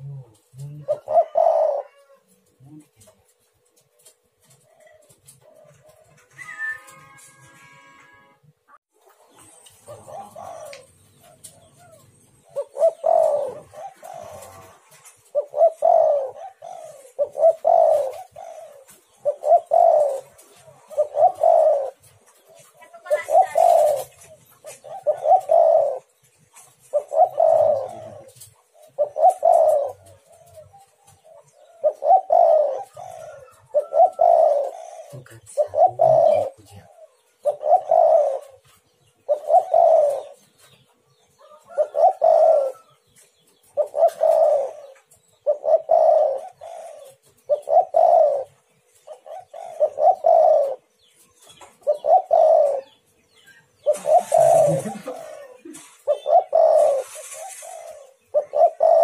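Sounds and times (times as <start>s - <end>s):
dove cooing: 0.0s - 7.4s, 9.0s - 59.0s.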